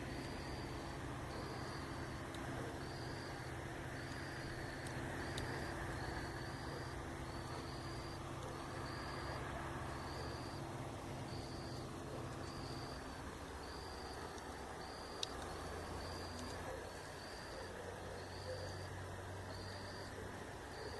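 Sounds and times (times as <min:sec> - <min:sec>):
campfire crackle: 0:00.0 - 0:20.9
insect chirping: 0:00.0 - 0:20.9
low steady hum: 0:00.0 - 0:20.9.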